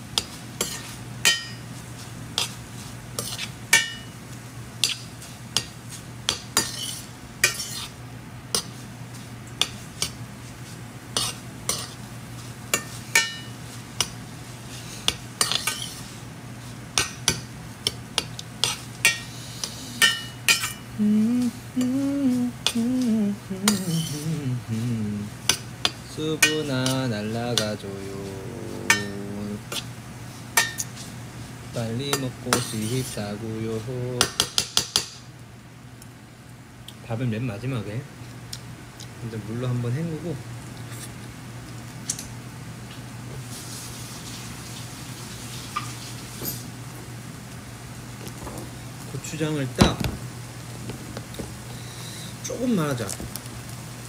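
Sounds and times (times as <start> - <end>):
faint sizzle: 0.0 - 54.0.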